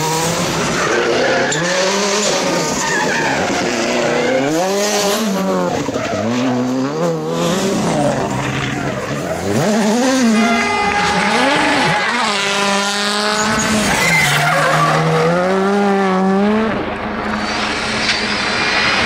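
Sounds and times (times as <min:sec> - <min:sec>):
rally car engines revving: 0:00.0 - 0:19.0
tyres skidding: 0:00.0 - 0:19.0.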